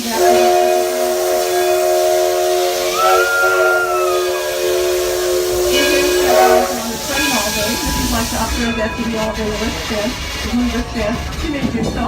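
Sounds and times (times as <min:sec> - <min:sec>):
steam locomotive chime whistle: 0:00.0 - 0:11.7
steam hiss: 0:00.0 - 0:12.0.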